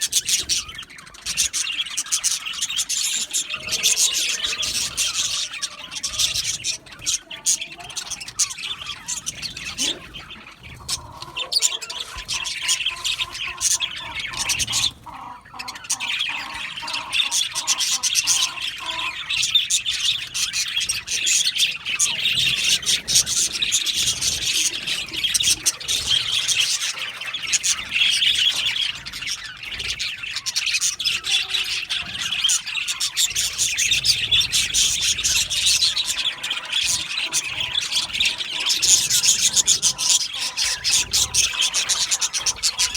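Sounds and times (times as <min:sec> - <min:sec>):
budgerigars chattering and chirping: 0:00.0 - 0:42.9.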